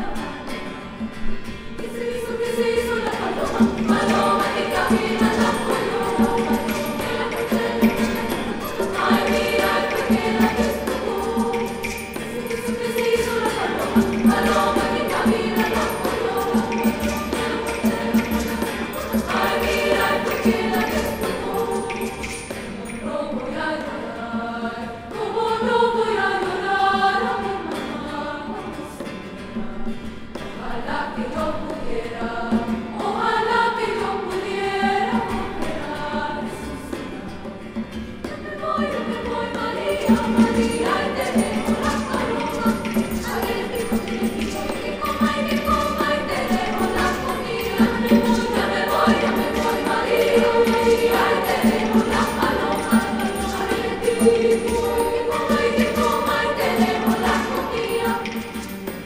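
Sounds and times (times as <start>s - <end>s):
girls choir singing: 0.0s - 59.0s.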